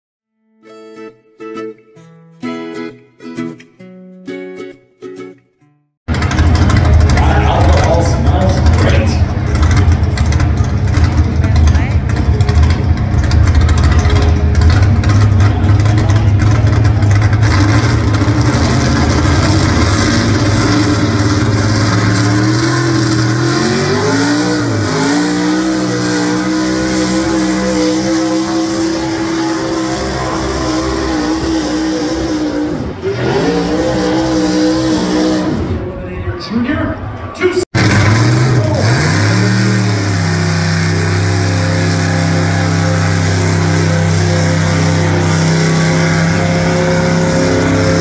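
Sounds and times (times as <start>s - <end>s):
truck engine revving: 6.1s - 36.2s, 37.0s - 48.0s.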